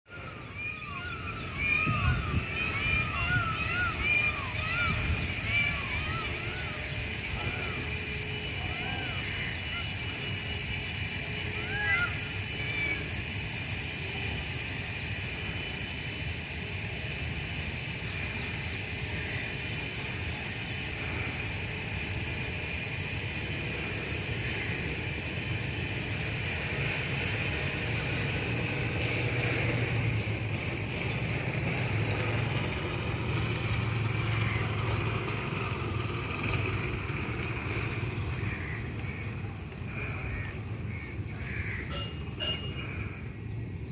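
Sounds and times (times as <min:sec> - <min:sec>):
steady high drone: 0:00.1 - 0:43.9.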